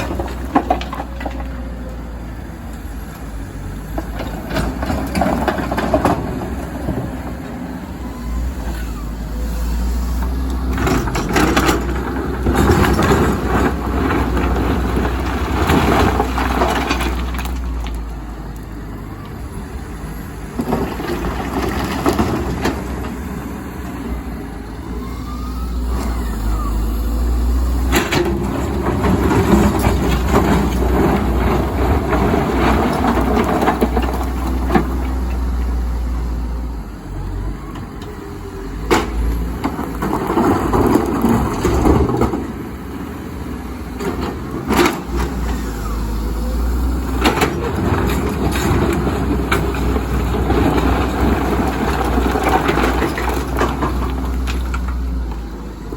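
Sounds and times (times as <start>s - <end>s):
excavator diesel engine working: 0.0s - 55.9s.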